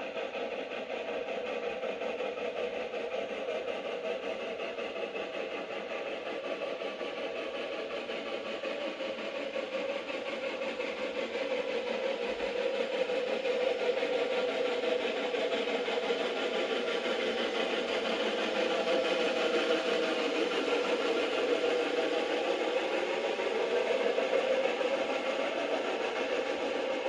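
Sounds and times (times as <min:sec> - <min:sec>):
steam locomotive working: 0:00.0 - 0:27.0.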